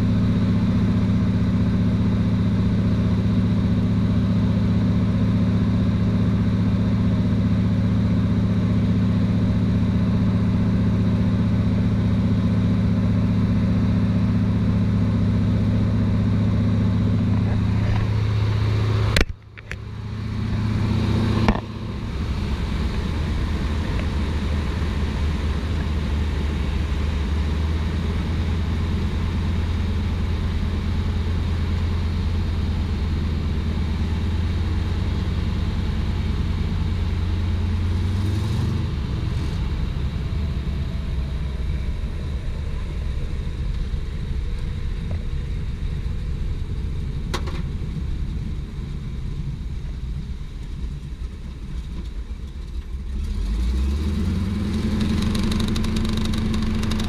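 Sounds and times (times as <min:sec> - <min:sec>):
engine drone: 0:00.0 - 0:57.0
lower engine drone: 0:00.0 - 0:57.0.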